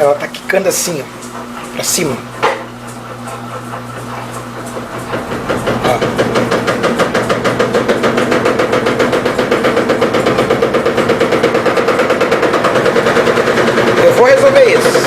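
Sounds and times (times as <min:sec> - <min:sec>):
washing machine spin whine: 0:00.0 - 0:15.0
suspension rod knocking rapidly: 0:01.4 - 0:15.0.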